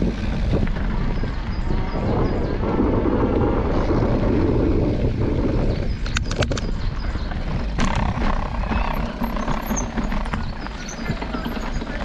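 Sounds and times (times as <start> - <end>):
bike knocks and rattles: 0.0 - 12.0
tyre and wind rumble: 0.0 - 12.0.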